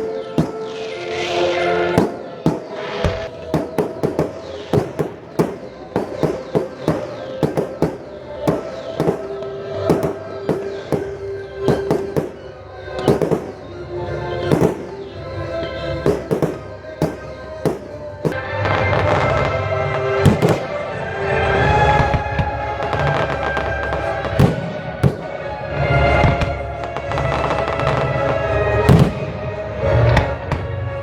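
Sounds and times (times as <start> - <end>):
fireworks bursting: 0.0 - 30.8
music with held notes: 0.0 - 31.0.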